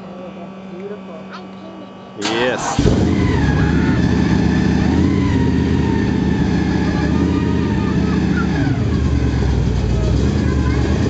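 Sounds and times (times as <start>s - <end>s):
vee eight engine running: 0.0s - 11.0s.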